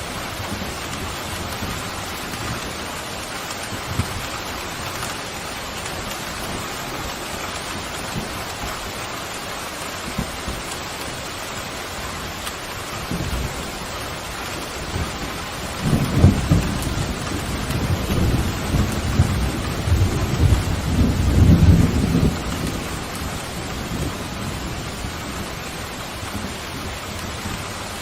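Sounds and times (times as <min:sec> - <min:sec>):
pouring rain: 0:00.0 - 0:28.0.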